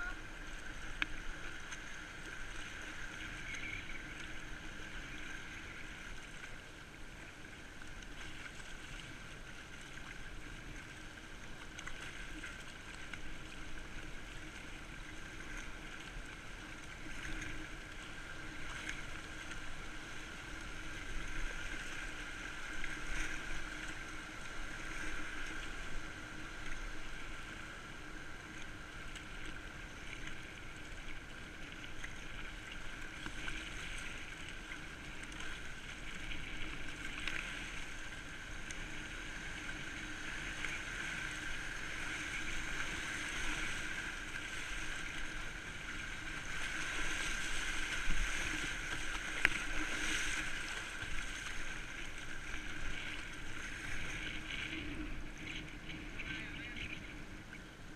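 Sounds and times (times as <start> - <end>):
paddle stroke in water: 0.0 - 57.9
river water rushing past hull: 0.0 - 57.9.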